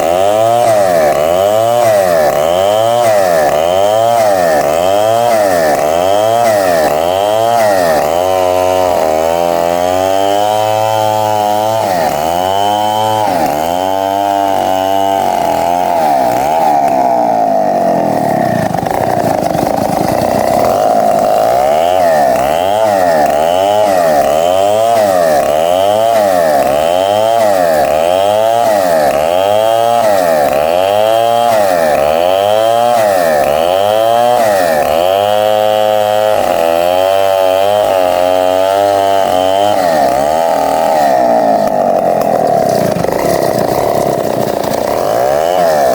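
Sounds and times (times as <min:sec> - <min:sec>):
power saw whining: 0:00.0 - 0:45.9.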